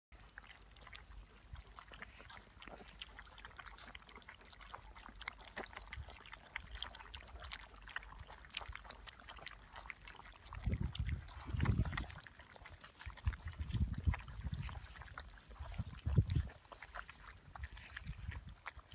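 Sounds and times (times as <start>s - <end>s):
puppies lapping and slurping food: 0.1s - 18.9s.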